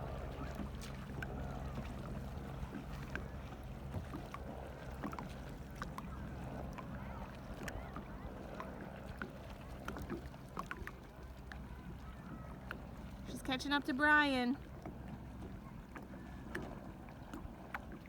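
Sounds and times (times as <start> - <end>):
little splashes: 0.0 - 18.0
water lapping against hull: 0.0 - 18.0.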